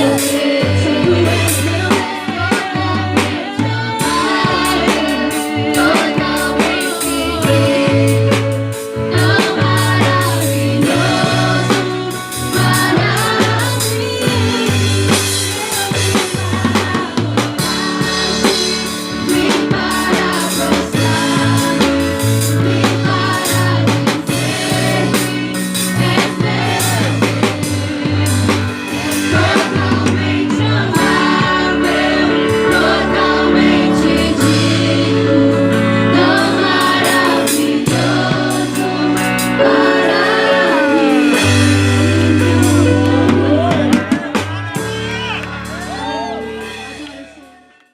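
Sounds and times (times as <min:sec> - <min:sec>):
gospel singing: 0:00.0 - 0:47.5
band with bass and drums: 0:00.0 - 0:47.9.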